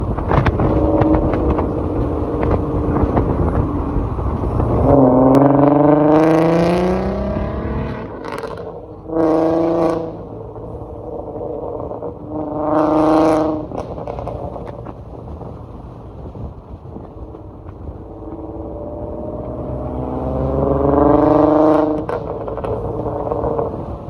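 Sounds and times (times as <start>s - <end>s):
car engine revving: 0.0s - 16.0s, 17.2s - 24.0s.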